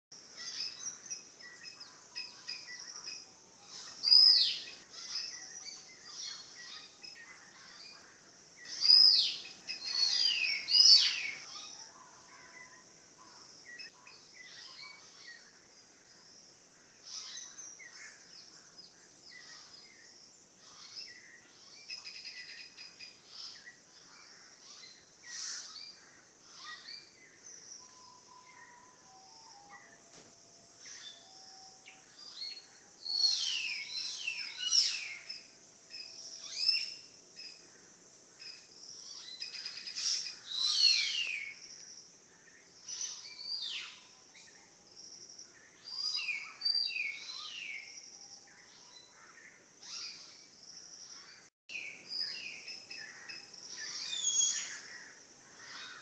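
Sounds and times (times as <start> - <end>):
songbirds singing and chirping: 0.1 - 56.0.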